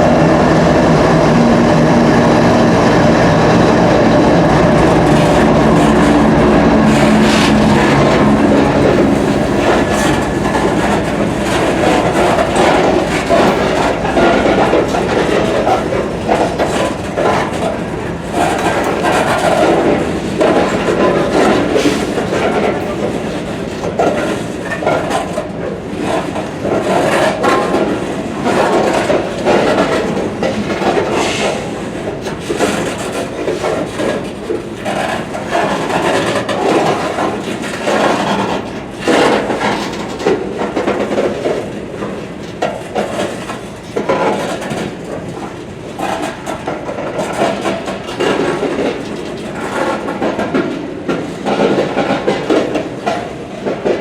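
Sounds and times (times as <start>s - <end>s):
freight train cars rolling past: 0.0s - 54.0s
wheels clicking on rails: 0.0s - 54.0s.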